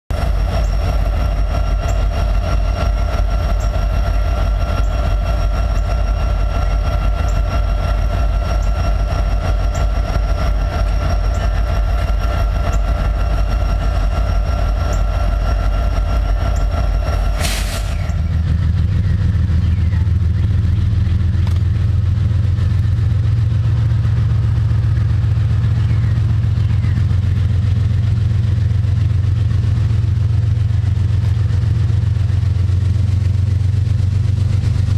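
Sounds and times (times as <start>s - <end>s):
diesel locomotive drone with whine: 0.1s - 34.9s
distant diesel train rumble: 0.1s - 34.9s.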